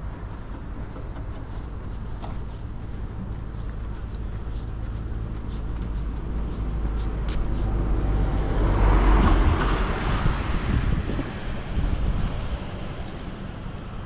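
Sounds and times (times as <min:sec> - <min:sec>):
steady low rumble: 0:00.0 - 0:14.0
vehicle passing by: 0:02.5 - 0:14.0.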